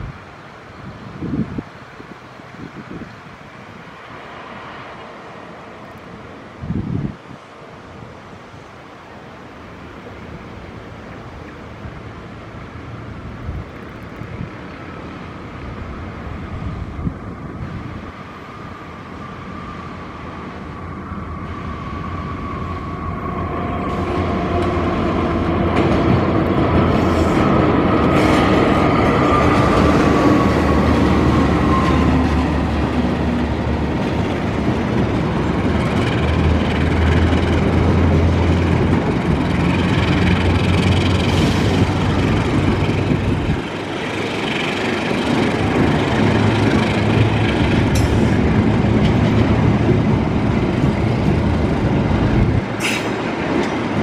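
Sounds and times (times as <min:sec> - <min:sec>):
train carriages rolling by: 0:07.4 - 0:54.0
locomotive whine: 0:08.4 - 0:54.0
locomotive engine rumble: 0:09.1 - 0:54.0.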